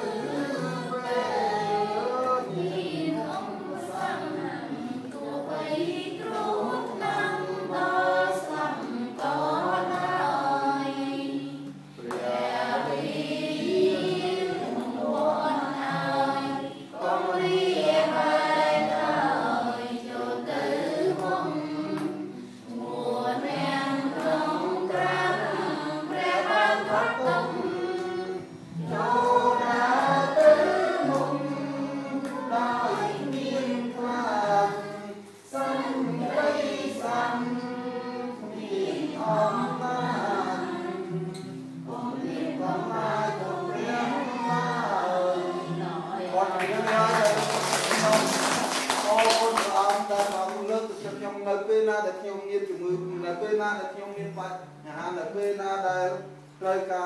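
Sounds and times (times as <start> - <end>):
hymn singing in a church: 0.0 - 57.0.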